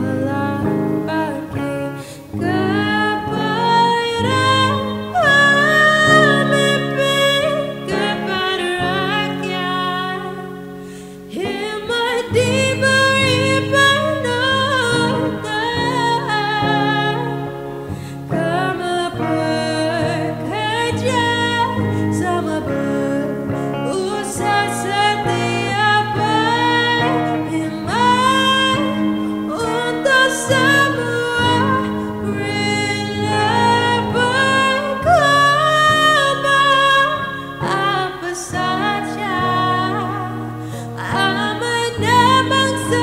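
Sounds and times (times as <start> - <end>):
woman singing: 0.0 - 43.0.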